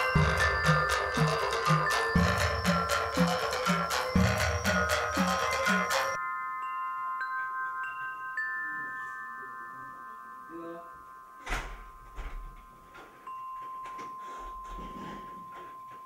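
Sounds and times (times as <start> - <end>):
chime-like ringing notes: 0.0 - 16.0.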